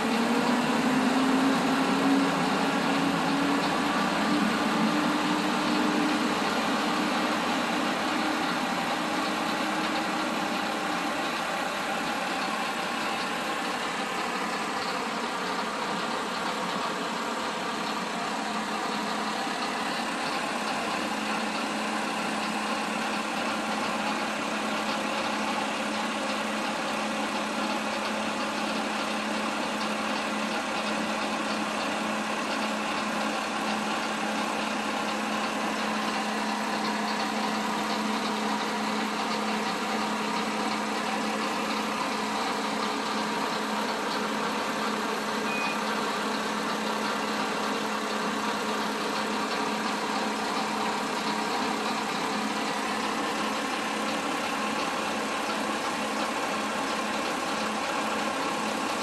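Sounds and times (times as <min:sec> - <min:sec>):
diesel railcar idling: 0:00.0 - 0:59.0.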